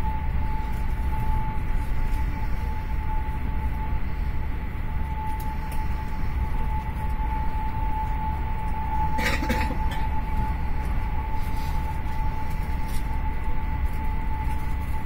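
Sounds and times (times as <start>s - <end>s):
thin constant whine: 0.0s - 15.0s.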